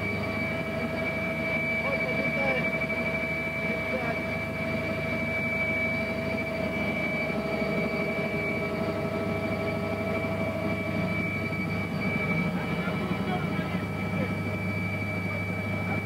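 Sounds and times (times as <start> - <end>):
aircraft engine drone: 0.0 - 16.0.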